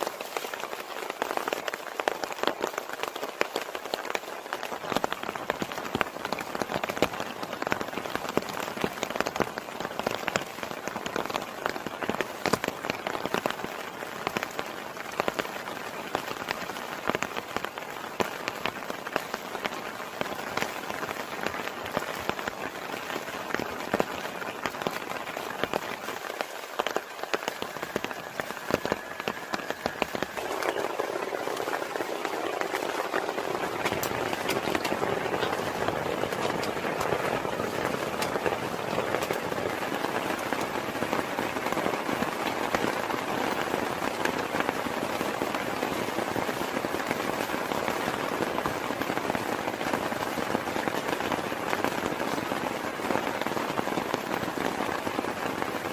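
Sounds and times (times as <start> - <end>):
heavy rain falling: 0.0 - 55.9
raindrops striking close by: 0.0 - 55.9.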